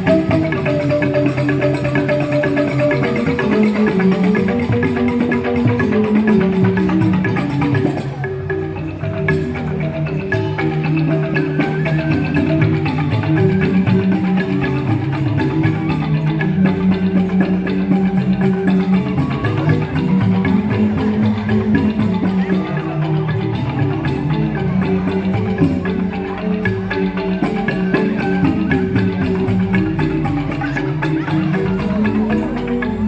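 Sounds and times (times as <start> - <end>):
bamboo xylophones struck with mallets: 0.0 - 33.0
percussion: 0.0 - 33.0.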